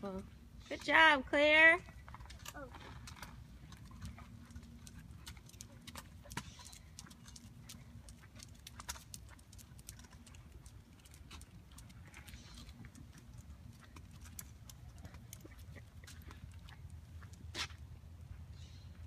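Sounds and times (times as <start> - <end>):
footsteps on concrete: 1.8 - 19.0.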